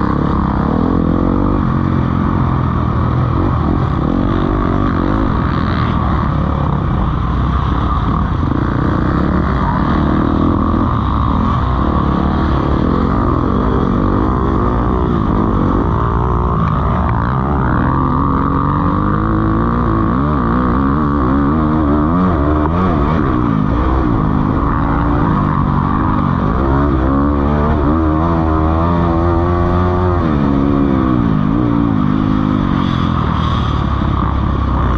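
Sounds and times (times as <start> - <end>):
constant low rumble: 0.0 - 34.9
motocross bike engines revving: 0.0 - 34.9.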